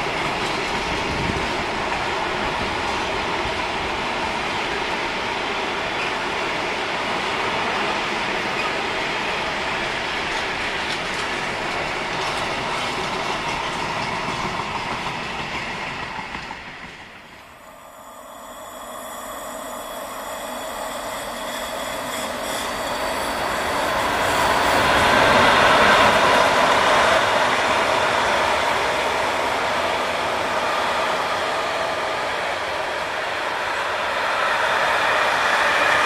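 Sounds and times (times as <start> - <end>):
freight train wheels on rail: 0.0 - 36.0.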